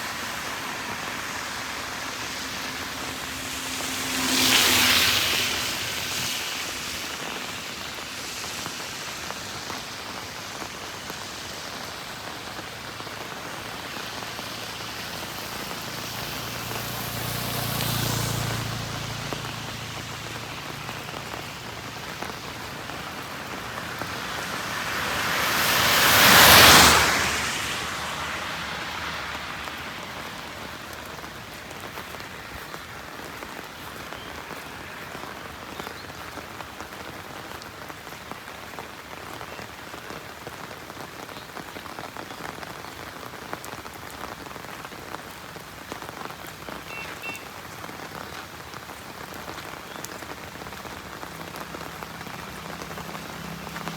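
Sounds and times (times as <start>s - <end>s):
tyres hissing through water: 0.0s - 37.6s, 45.8s - 53.9s
heavy rain on wet road: 0.0s - 53.9s.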